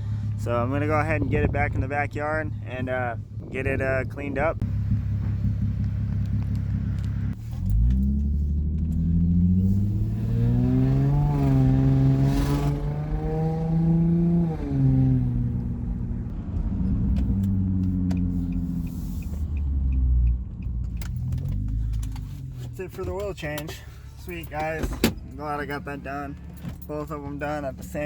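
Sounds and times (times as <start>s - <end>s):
car engine with rumbling exhaust: 0.0s - 28.0s.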